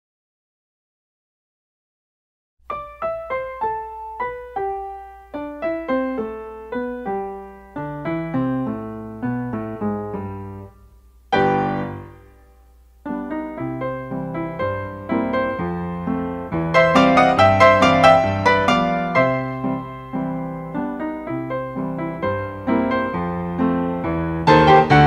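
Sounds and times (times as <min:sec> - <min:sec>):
piano music: 0:02.6 - 0:25.0.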